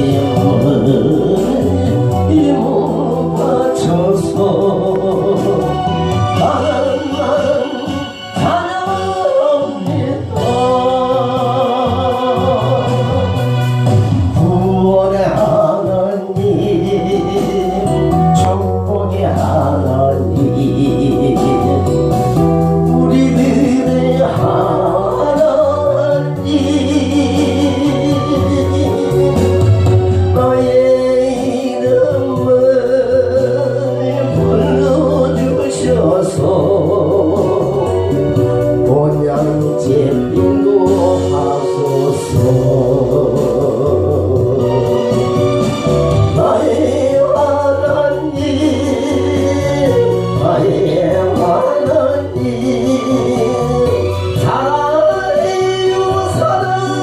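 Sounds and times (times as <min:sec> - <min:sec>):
instrumental backing music: 0:00.0 - 0:57.0
man singing: 0:00.0 - 0:57.0.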